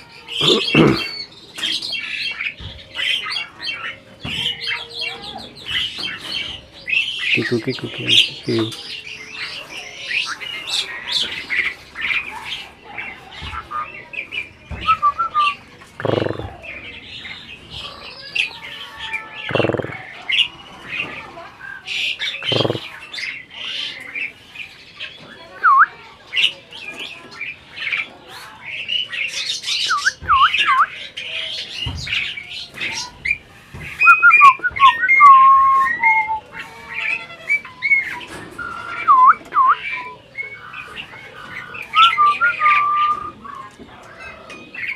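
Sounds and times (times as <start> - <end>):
starling chattering and whistling: 0.0 - 44.9.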